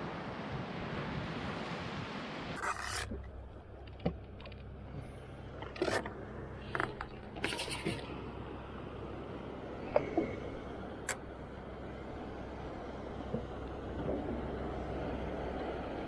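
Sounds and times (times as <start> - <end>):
water noise: 0.0 - 16.0
wind: 0.0 - 16.0
jet ski engine idling: 2.6 - 16.0.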